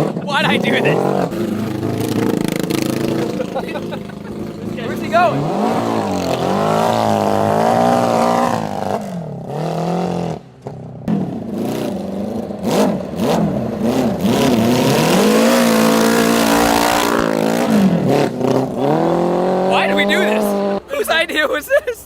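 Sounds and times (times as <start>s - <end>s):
motorcycle engine revving hard: 0.0s - 20.9s.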